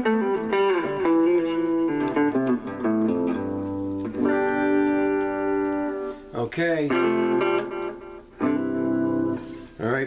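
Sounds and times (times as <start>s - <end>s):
clean electric guitar notes: 0.0s - 9.6s.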